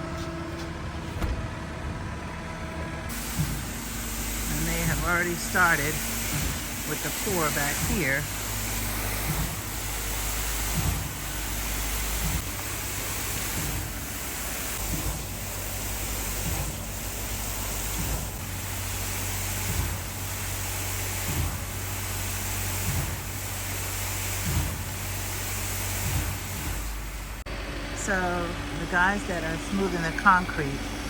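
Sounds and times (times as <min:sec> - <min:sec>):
concrete pump thudding: 0:00.0 - 0:27.6
engine hum: 0:00.0 - 0:31.0.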